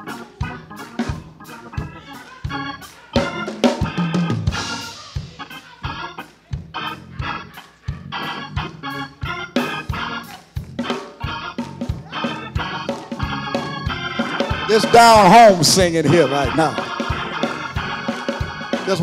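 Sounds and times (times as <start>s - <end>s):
church organ chords: 0.0s - 19.0s
quick percussive beat: 0.4s - 7.2s, 7.8s - 19.0s.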